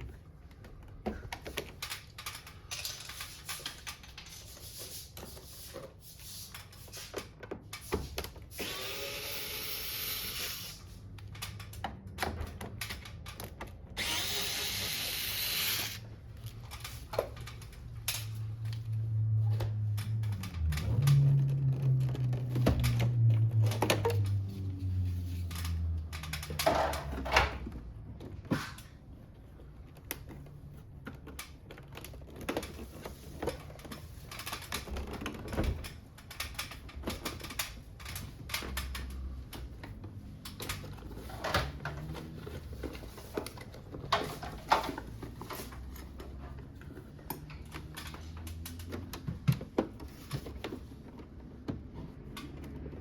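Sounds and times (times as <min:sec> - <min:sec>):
plastic parts clicking and snapping: 0:00.0 - 0:04.4, 0:09.8 - 0:53.0.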